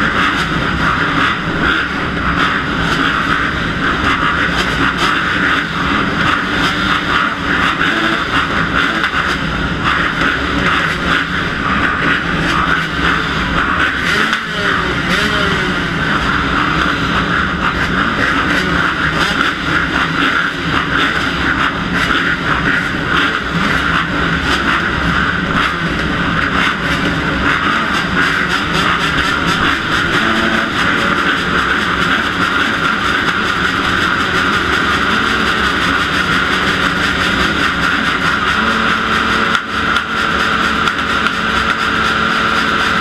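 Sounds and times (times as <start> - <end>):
dirt bike engines running: 0.0 - 43.0.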